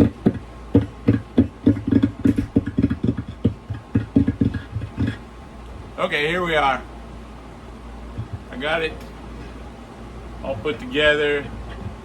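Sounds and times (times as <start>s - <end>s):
amp hum: 0.0s - 12.0s.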